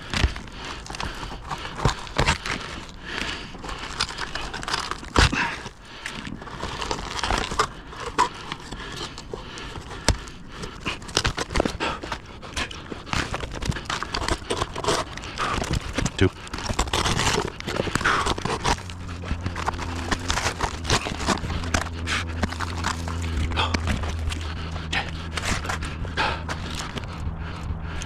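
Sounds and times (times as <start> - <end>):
rustling and crinkling handling noise: 0.0 - 28.0.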